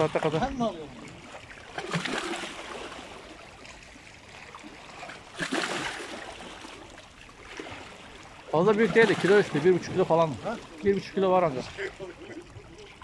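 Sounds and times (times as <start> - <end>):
seawater washing against rocks: 0.0 - 13.0.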